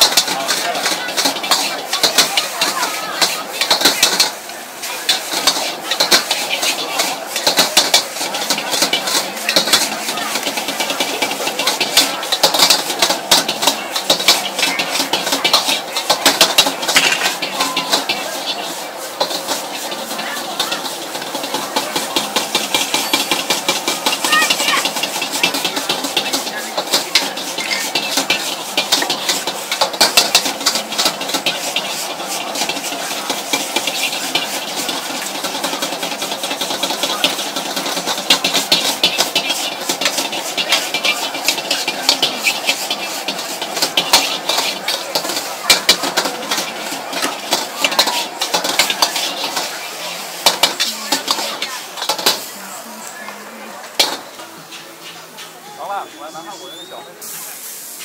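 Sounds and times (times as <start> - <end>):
metal ladle scraping a wok: 0.0 - 53.1, 53.9 - 55.6
wok burner rushing: 0.0 - 58.0.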